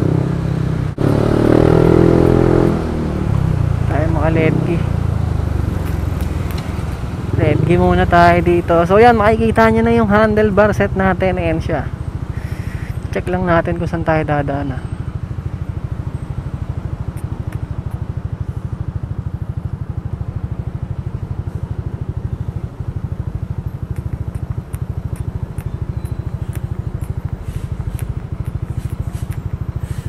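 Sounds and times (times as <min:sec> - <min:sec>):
scooter engine idling: 0:03.3 - 0:30.0.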